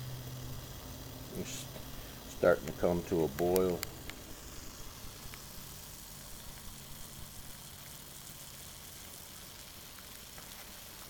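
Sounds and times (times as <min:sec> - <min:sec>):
water starting to boil: 0:00.0 - 0:11.0.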